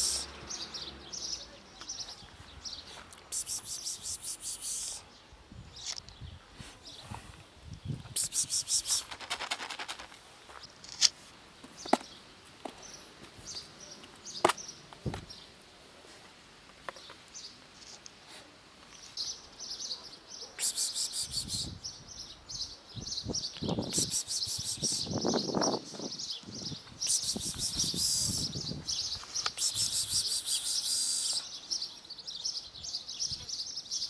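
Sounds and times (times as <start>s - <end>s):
small birds chirping: 0.0s - 15.6s, 16.8s - 34.0s.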